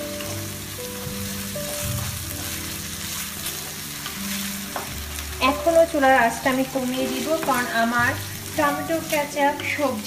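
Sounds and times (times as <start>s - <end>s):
soft background music: 0.0s - 10.0s
vegetables frying in a wok: 0.0s - 10.0s.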